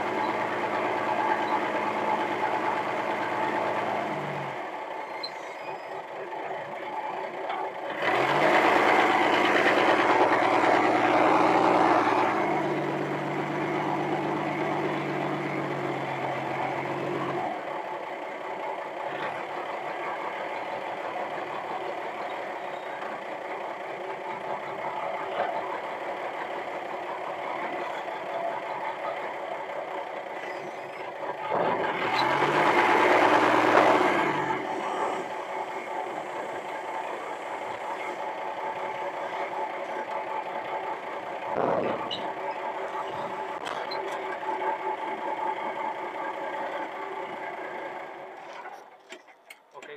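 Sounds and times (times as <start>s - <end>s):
forklift engine running: 0.0s - 49.9s.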